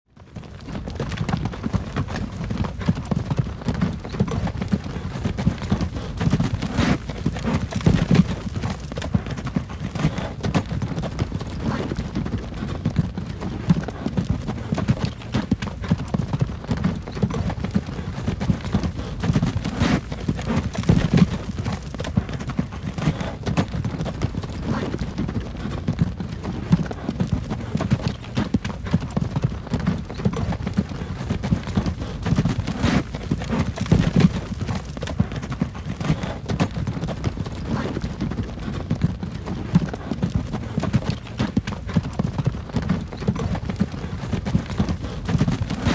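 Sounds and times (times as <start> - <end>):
hooves clip-clopping: 0.2 - 45.9
wagon wheels rumbling: 0.2 - 45.9.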